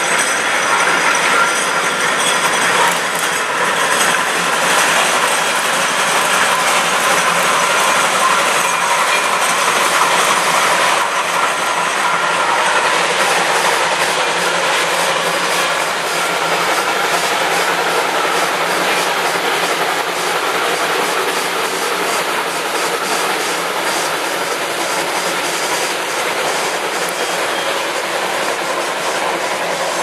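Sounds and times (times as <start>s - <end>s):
coaches rolling on rails: 0.0s - 30.0s
steam locomotive clatter: 0.0s - 30.0s.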